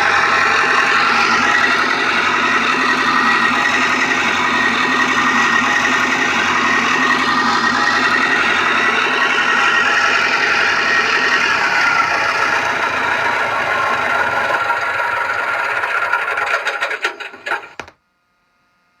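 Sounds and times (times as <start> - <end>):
simulated model aircraft engine: 0.0 - 17.9.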